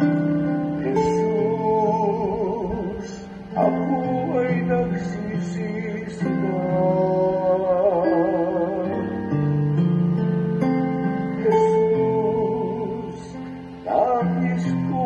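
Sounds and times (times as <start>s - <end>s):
man singing slow song: 0.0s - 15.0s
strummed acoustic guitar: 0.0s - 15.0s.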